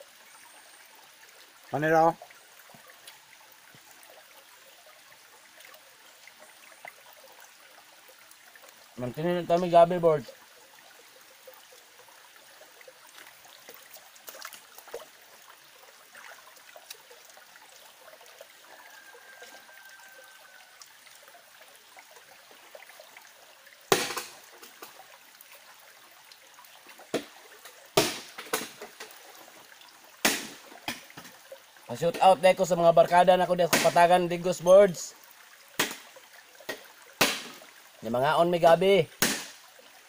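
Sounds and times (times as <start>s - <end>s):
stream trickling: 0.0s - 40.0s.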